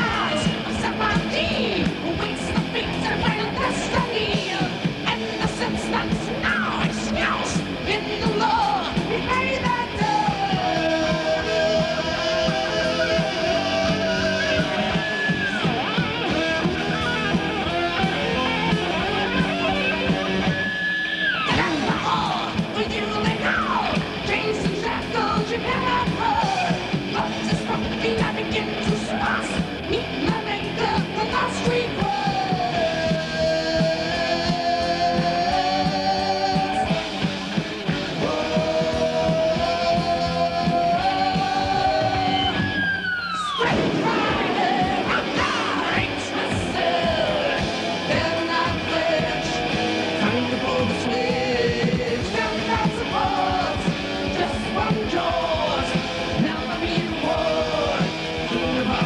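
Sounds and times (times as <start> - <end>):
bass and drums: 0.0 - 59.0
electric guitar lead: 0.0 - 59.0
heavy metal band playing: 0.0 - 59.0.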